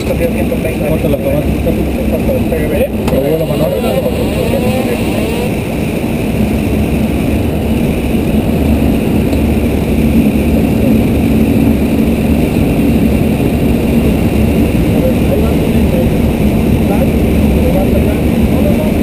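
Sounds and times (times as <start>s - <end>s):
aircraft engine noise: 0.0s - 19.0s
steady low hum: 0.0s - 19.0s.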